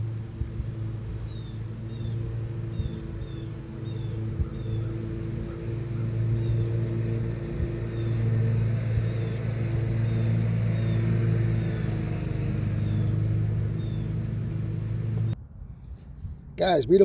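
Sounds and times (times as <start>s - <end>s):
boat motor running: 0.0s - 15.4s.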